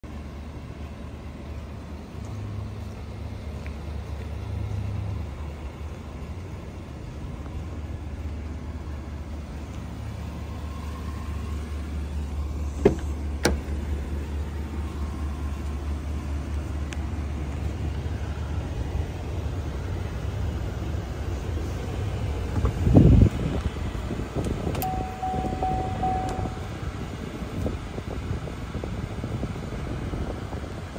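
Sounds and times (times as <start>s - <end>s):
engine idling: 0.0s - 30.9s.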